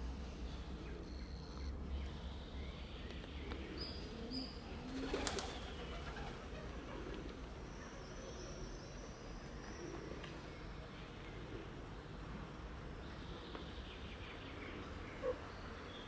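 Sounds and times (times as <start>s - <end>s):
birds chirping: 0.0s - 16.0s
low background hum: 0.0s - 16.0s.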